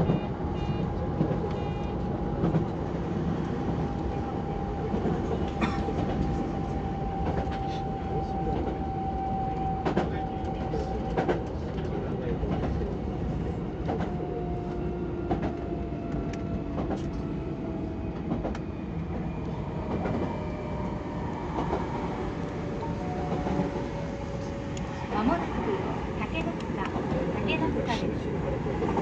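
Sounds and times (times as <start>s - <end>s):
train rolling rumble: 0.0s - 29.0s.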